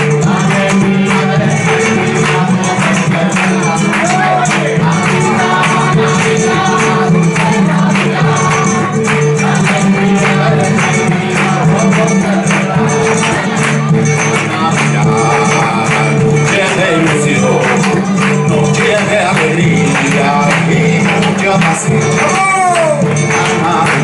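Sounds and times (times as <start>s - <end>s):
group clapping in rhythm: 0.0s - 24.0s
man singing through a microphone: 0.0s - 24.0s
nylon-string guitar: 0.0s - 24.0s.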